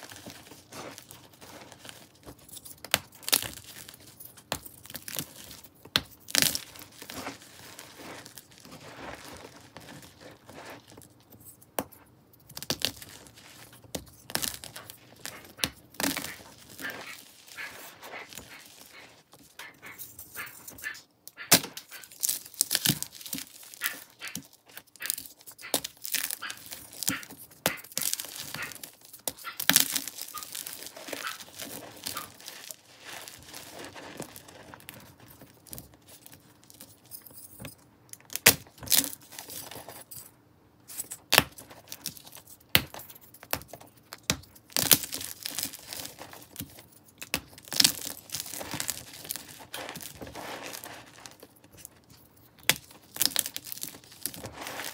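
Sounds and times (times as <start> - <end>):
gritty rustle of powder: 0.0 - 11.6, 12.5 - 21.0, 21.8 - 37.4, 44.7 - 54.9
powder blocks crunching: 0.0 - 40.2, 40.9 - 54.9.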